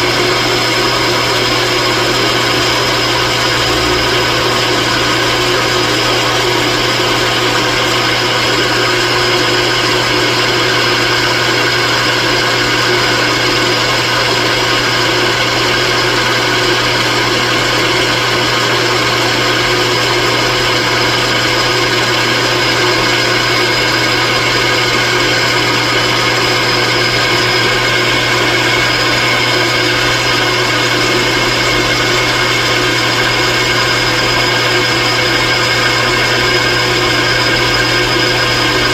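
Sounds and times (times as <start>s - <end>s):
machine tool humming and whining: 0.0s - 38.9s.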